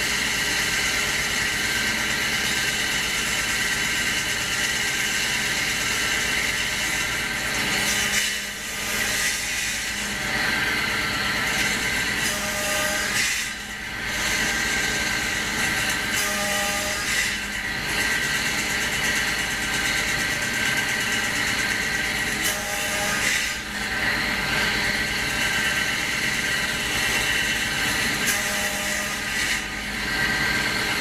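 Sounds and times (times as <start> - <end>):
woodworking power tool running: 0.0 - 31.0.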